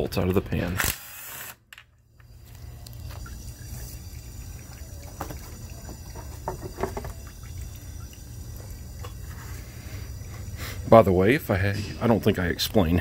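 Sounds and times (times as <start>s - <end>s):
fluid trickling and dribbling: 2.1s - 13.0s.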